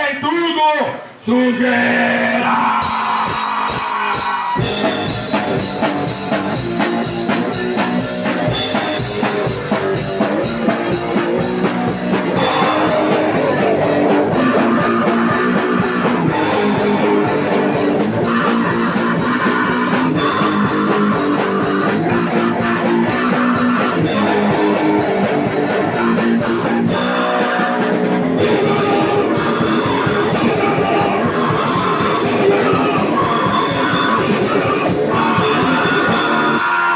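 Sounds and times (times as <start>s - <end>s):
pounding drum kit: 2.4s - 36.9s
bass guitar: 2.6s - 36.7s
distorted electric guitar: 2.7s - 36.9s.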